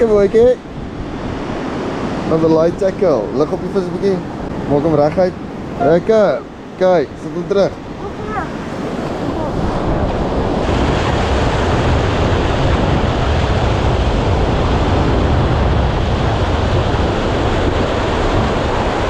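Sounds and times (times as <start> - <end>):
sea surf washing ashore: 0.0 - 19.0
wind buffeting microphone: 0.0 - 19.0.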